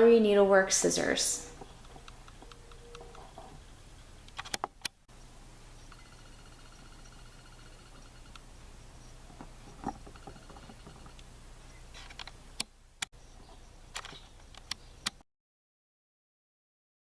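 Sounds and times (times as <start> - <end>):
low steady hum: 0.0 - 15.1.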